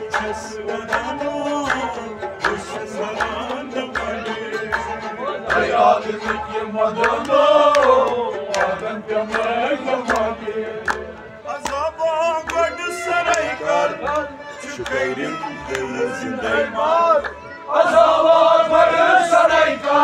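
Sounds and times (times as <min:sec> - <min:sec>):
hand drum beat: 0:00.0 - 0:19.6
harmonium: 0:00.0 - 0:20.0
men singing: 0:00.0 - 0:20.0.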